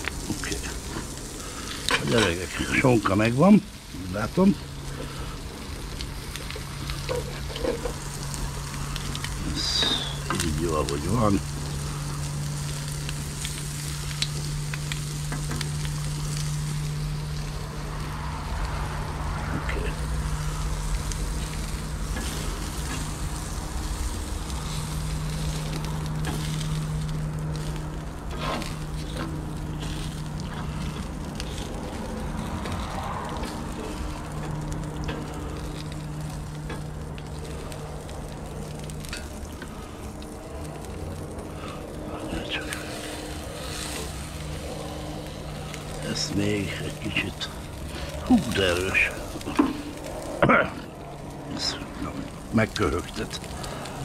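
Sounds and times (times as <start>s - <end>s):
food sizzling on a griddle: 0.0s - 54.0s
low steady hum: 0.0s - 54.0s.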